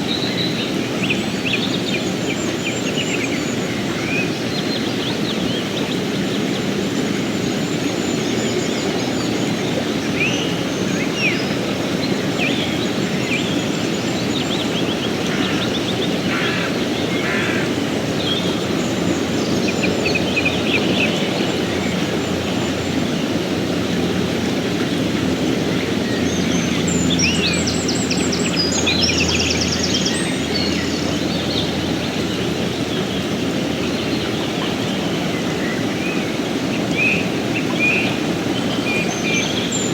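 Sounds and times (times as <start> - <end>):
songbirds chirping: 0.0 - 39.9
stream running: 0.0 - 39.9.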